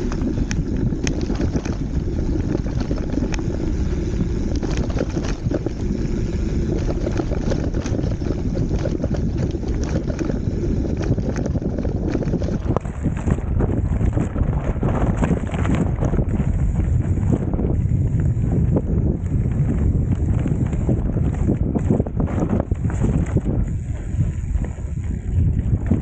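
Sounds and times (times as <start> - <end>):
bike bags shaking: 0.0 - 17.4, 19.3 - 26.0
bicycle rolling over gravel: 0.0 - 26.0
wind buffeting microphone: 0.0 - 26.0.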